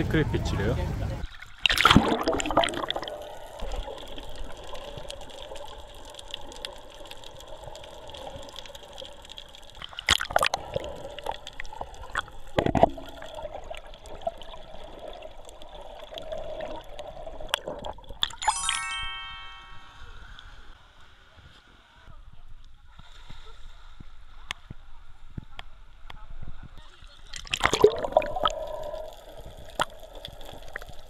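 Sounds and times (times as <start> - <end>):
muffled underwater water noise: 0.0 - 18.4, 20.1 - 31.0.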